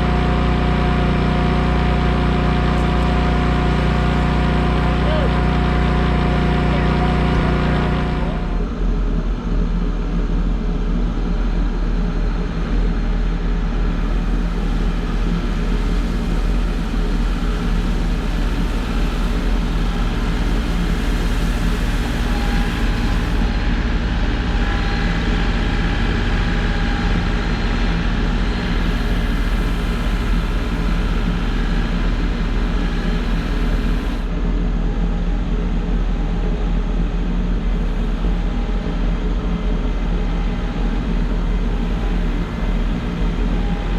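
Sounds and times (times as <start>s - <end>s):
large engine running: 0.0s - 43.9s.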